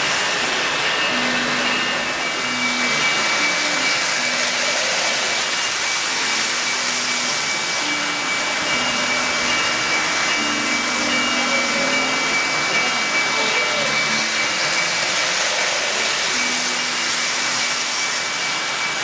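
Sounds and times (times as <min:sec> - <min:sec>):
toy train wheels rolling: 0:00.0 - 0:19.0.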